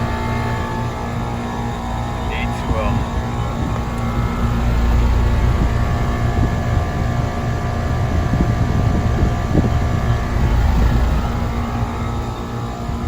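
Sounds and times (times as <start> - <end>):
heat pump mechanical hum: 0.0 - 13.0
wind buffeting microphone: 0.0 - 13.0.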